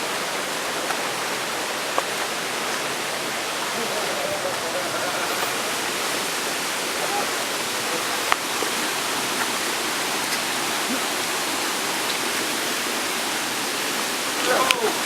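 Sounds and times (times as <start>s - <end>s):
rushing river and waterfall: 0.0s - 15.0s.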